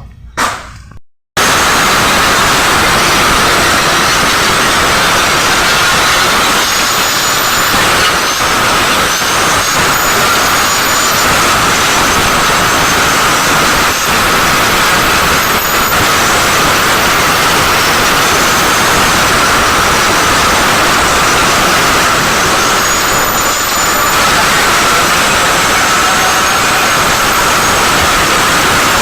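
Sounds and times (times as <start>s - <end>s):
faint high whine: 1.4s - 29.0s
power tool rushing hiss: 1.4s - 29.0s.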